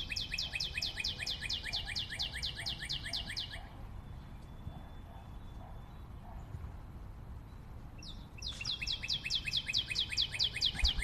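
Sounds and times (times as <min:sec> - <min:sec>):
rapid trill of bird-like chirps: 0:00.0 - 0:06.5, 0:07.4 - 0:11.0.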